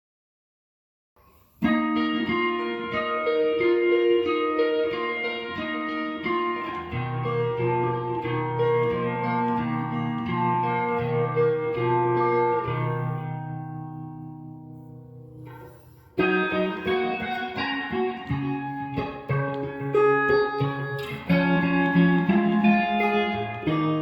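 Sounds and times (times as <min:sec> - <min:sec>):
guitar plucking slow melody: 0:01.3 - 0:24.0.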